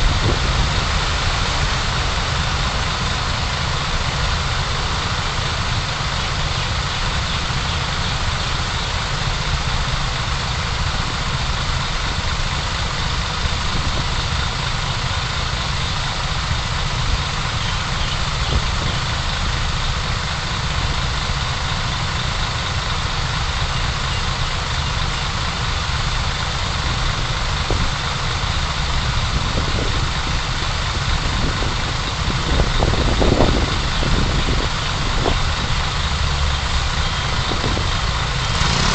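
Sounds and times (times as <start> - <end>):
car engine rumble: 0.0 - 38.9
road noise hiss: 0.0 - 38.9.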